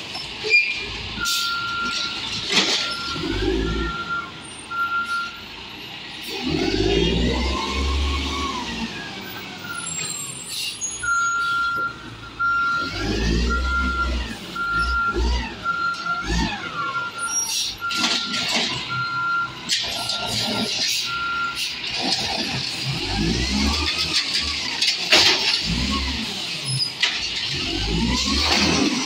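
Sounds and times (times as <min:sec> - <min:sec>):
garbage truck engine revving: 0:00.2 - 0:11.4, 0:12.0 - 0:29.0.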